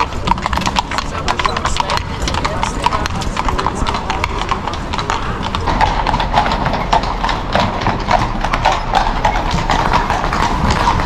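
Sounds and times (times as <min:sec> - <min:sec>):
horse hooves clip-clopping on street: 0:00.0 - 0:11.0.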